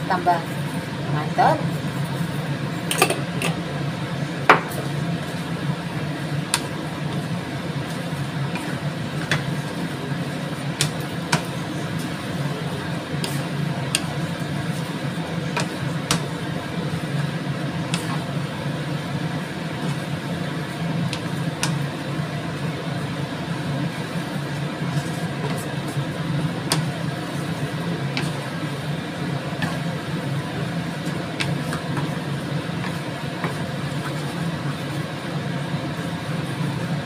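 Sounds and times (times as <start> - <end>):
steady low hum: 0.0 - 37.0
spatula stirring noodles in pan: 3.7 - 37.0.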